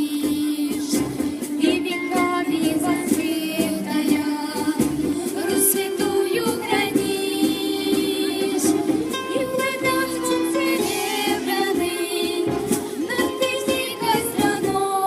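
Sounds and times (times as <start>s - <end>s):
children's choir singing with accompaniment: 0.0s - 15.0s.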